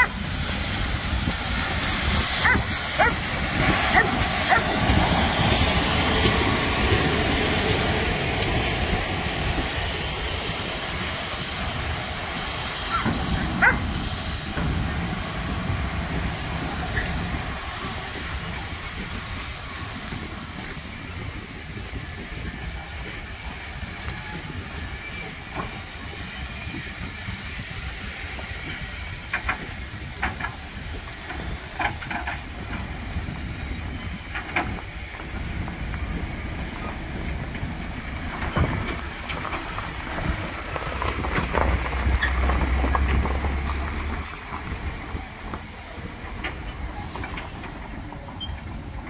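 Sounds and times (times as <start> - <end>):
train rolling rumble: 0.0 - 49.0
train wheels clicking over rail joints: 0.0 - 49.0.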